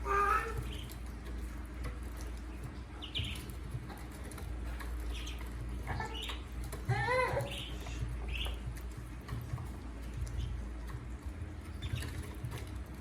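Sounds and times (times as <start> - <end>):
ducklings peeping: 0.0 - 13.0
steady low hum: 0.0 - 13.0.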